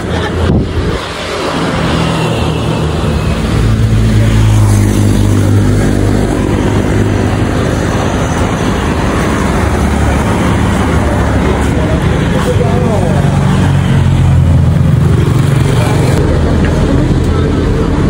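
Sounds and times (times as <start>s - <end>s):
road noise: 0.0s - 18.0s
vehicle engine humming: 0.0s - 18.0s.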